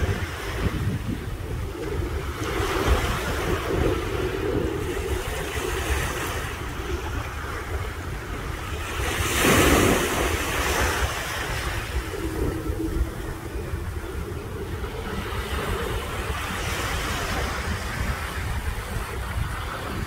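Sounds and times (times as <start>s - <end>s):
sea waves washing in: 0.0s - 20.0s
wind buffeting microphone: 0.0s - 20.0s.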